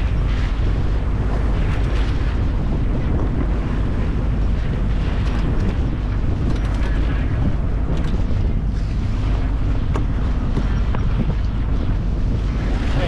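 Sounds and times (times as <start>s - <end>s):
water washing along a hull: 0.0s - 13.0s
wind buffeting microphone: 0.0s - 13.0s.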